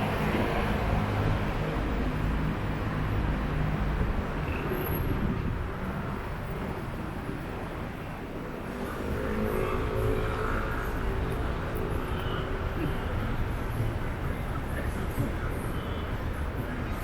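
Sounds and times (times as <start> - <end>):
cars and buses passing: 0.0 - 17.0.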